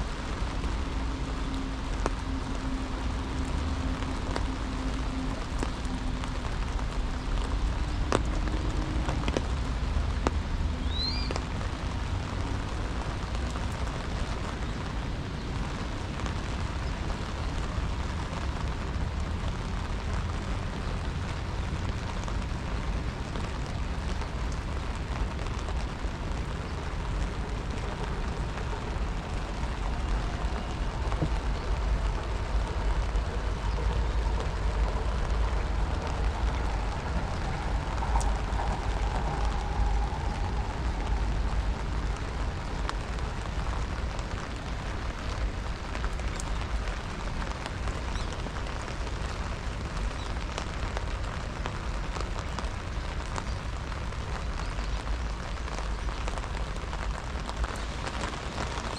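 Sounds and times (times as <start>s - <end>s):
deep rumble: 0.0s - 58.9s
rain falling: 0.0s - 58.9s.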